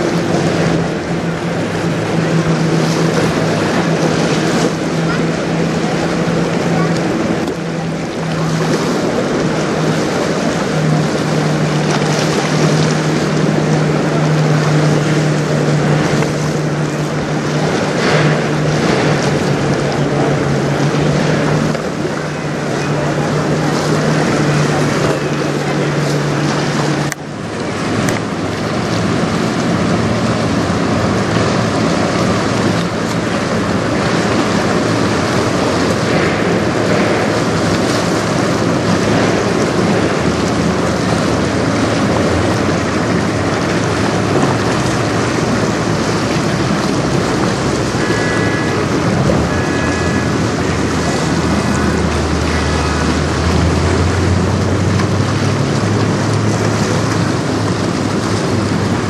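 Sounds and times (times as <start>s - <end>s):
choppy river water: 0.0s - 59.0s
low engine hum: 0.0s - 59.0s
wind buffeting microphone: 0.0s - 59.0s.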